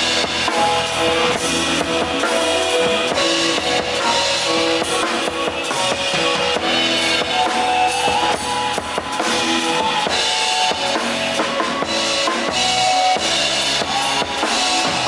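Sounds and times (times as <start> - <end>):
drum kit playing steady beat: 0.0 - 15.0.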